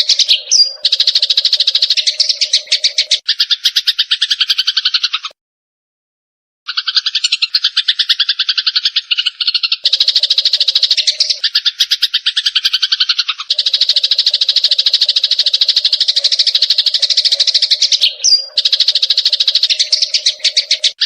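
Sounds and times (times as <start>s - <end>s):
sparrows chattering harshly: 0.0s - 5.4s, 6.7s - 21.0s.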